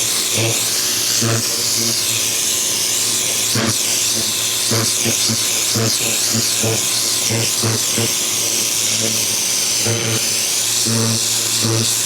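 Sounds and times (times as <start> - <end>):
pulsing motor hum: 0.0 - 12.0.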